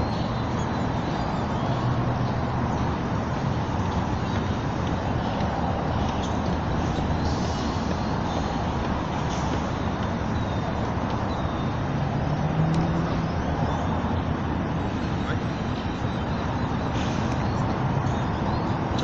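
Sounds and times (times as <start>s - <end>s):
road traffic rumble: 0.0s - 19.0s
vehicle engine drone: 0.0s - 19.0s.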